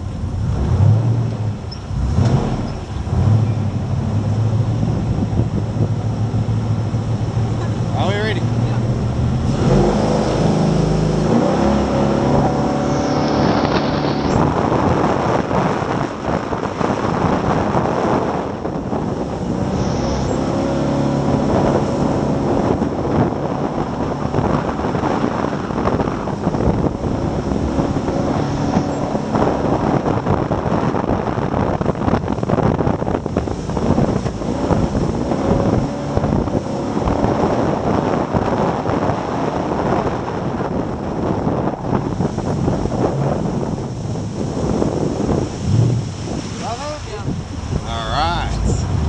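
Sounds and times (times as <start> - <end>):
boat engine running: 0.0 - 49.0
wind on microphone: 0.0 - 49.0.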